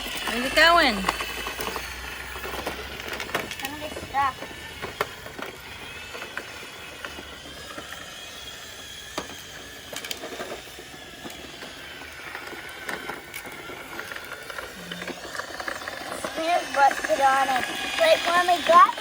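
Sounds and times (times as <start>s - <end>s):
robot vacuum motor whir: 0.0s - 19.0s.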